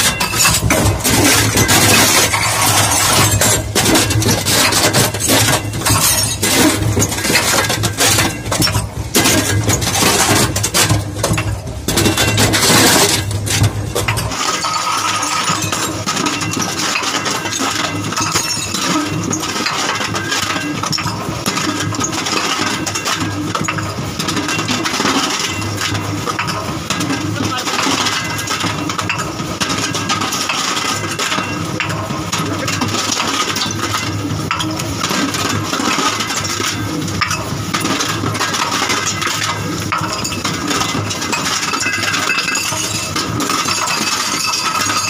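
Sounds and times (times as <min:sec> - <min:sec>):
glass grinding: 0:00.0 - 0:23.9, 0:24.5 - 0:45.0
glass bottles crunching and cracking: 0:00.0 - 0:45.0.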